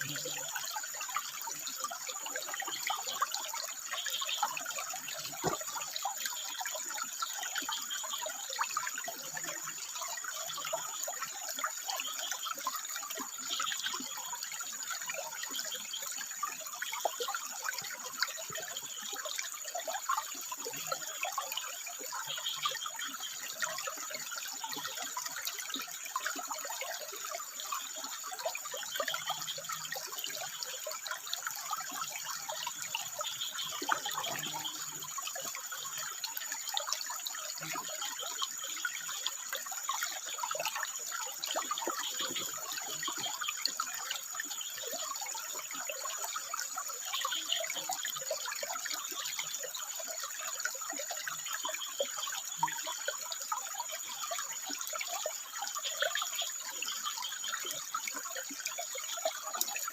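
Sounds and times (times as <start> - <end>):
faint frog calls: 0.0 - 59.9
water trickling over rocks: 0.0 - 59.9.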